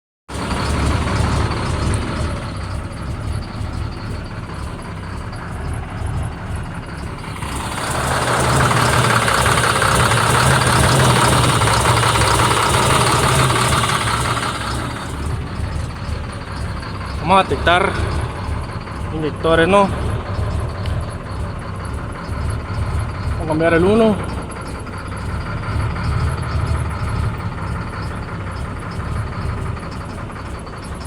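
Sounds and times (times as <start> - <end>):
diesel engine running: 0.3 - 31.0.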